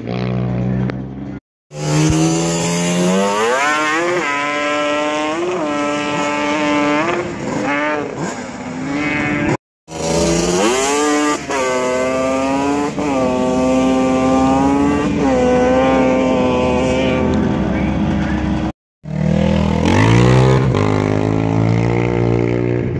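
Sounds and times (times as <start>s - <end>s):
quad engines revving: 1.7s - 22.9s.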